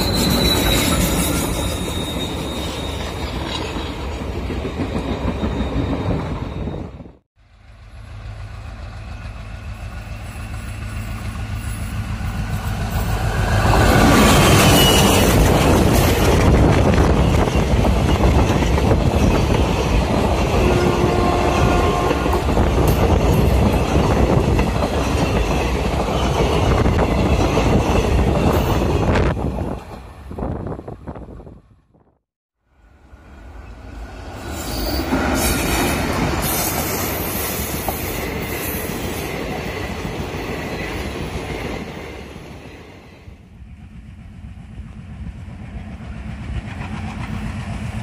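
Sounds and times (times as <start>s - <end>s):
train coaches rumbling past: 0.0s - 31.8s, 32.7s - 48.0s
diesel locomotive engine drone: 0.0s - 48.0s.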